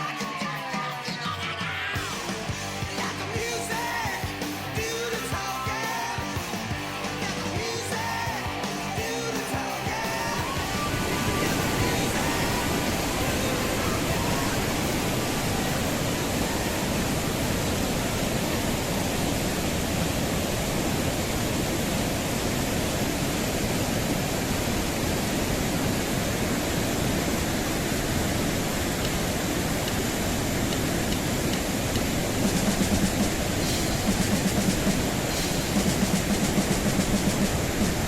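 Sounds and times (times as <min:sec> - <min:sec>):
waterfall rushing: 0:01.9 - 0:38.0.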